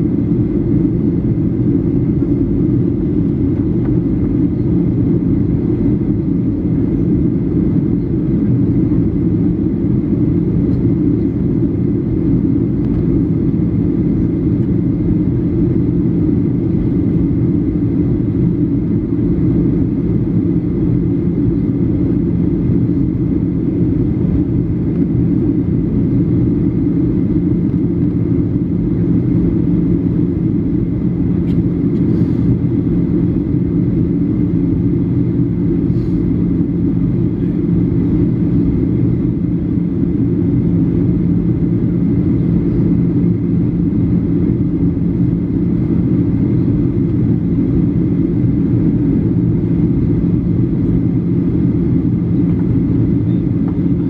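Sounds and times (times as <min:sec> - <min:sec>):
airplane cabin engine rumble: 0:00.0 - 0:54.0
low steady hum: 0:00.0 - 0:54.0.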